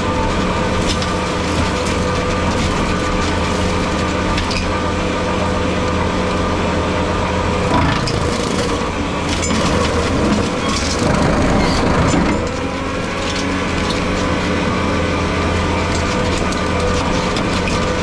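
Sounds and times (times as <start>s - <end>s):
skid steer running under load: 0.0s - 18.0s.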